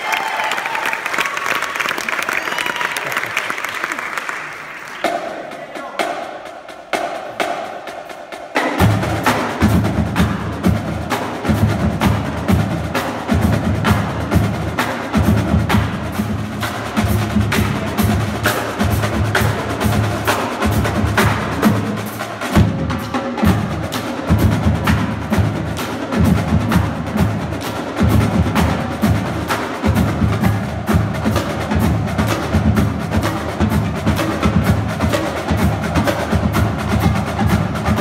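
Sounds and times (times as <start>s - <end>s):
marching drumline playing: 3.4s - 38.0s
cymbals: 4.6s - 38.0s.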